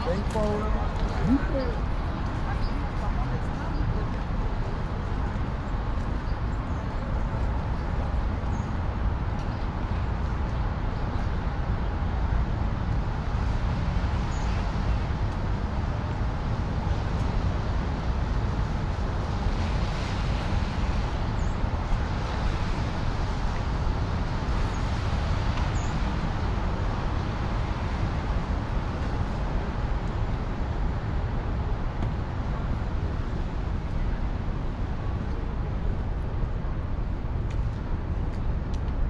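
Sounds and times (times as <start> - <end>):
vehicles passing on wet roads: 0.0 - 39.0.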